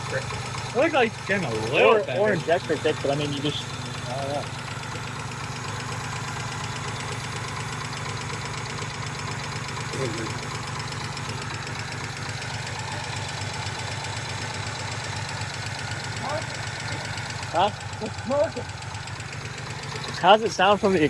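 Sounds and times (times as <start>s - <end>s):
car engine idling unevenly: 0.0s - 21.0s.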